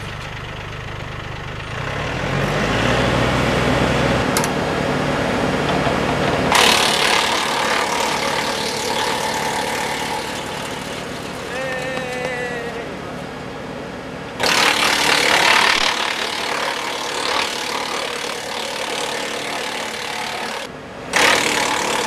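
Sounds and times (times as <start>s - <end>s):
wood chipper shredding branches: 0.0s - 13.6s, 14.3s - 22.0s
tractor engine: 0.0s - 22.0s.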